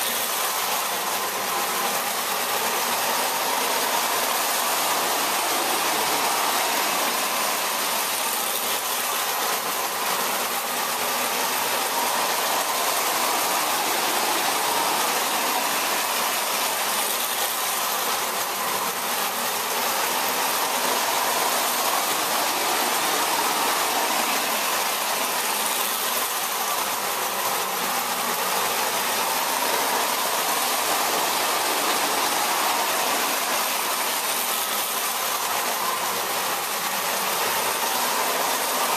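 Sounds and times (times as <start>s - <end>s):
toy electric trains whirring on rails: 0.0s - 38.9s.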